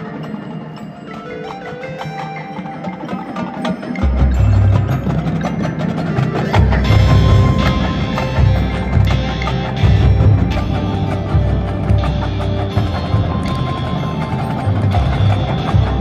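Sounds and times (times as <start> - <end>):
mallet percussion notes: 0.0 - 16.0.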